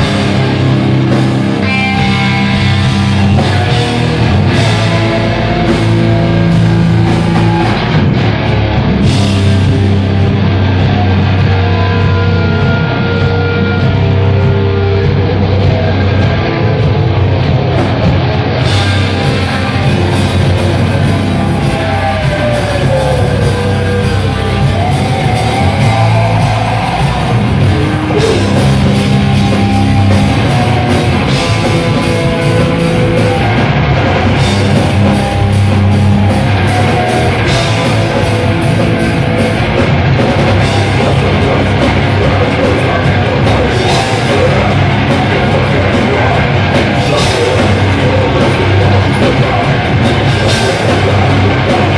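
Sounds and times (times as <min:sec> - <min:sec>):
bass guitar: 0:00.0 - 0:51.9
distorted electric guitars: 0:00.0 - 0:51.9
drum kit: 0:00.0 - 0:51.9.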